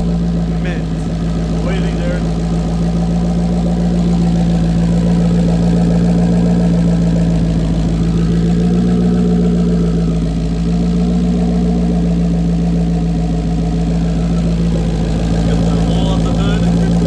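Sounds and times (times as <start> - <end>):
turbocharged car engine idling: 0.0 - 17.0.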